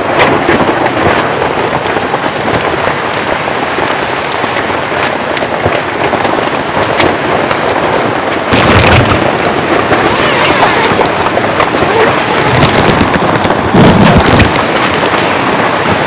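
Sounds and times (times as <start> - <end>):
heavy rain on tent fabric: 0.0 - 16.0.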